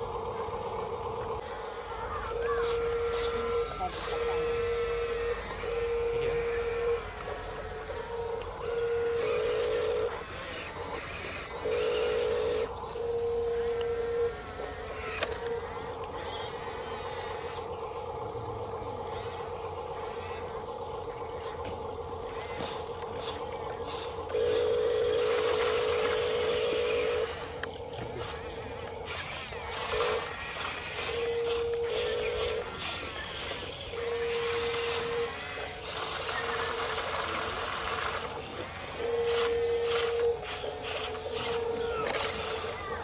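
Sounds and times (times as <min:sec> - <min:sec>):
electric motors whining: 0:00.0 - 0:43.0.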